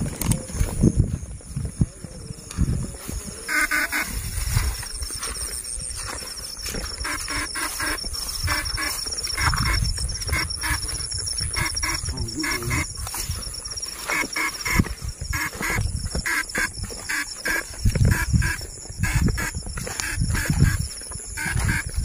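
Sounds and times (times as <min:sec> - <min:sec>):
frogs croaking: 0:00.0 - 0:22.0
high insect trill: 0:00.0 - 0:22.0
footsteps on wet grass: 0:02.5 - 0:22.0.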